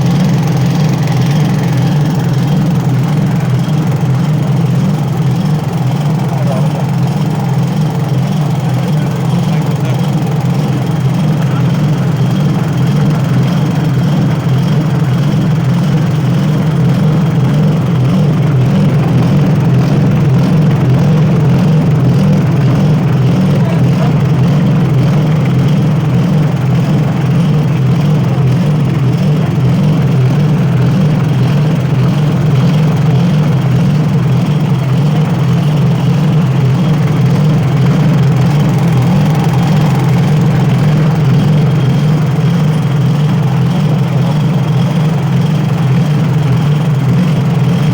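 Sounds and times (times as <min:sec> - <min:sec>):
small petrol engine running steadily: 0:00.0 - 0:47.9.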